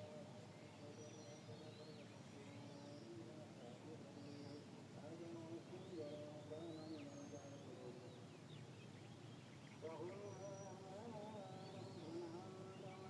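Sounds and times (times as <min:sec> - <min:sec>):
birds chirping: 0:00.0 - 0:13.0
faint distant voices: 0:00.0 - 0:13.0.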